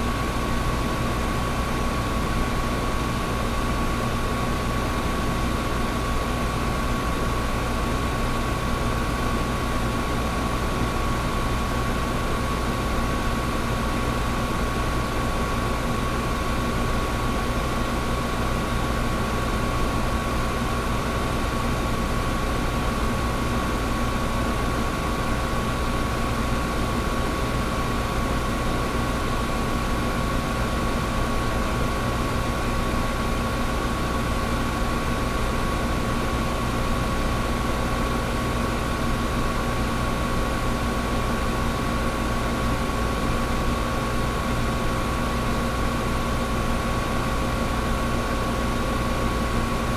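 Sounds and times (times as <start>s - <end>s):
fan airflow rush: 0.0s - 49.9s.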